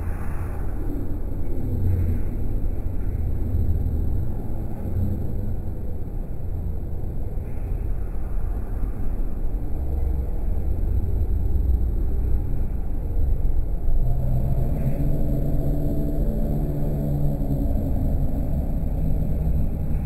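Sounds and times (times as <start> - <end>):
low room rumble: 0.0 - 20.0
low steady hum: 0.0 - 20.0.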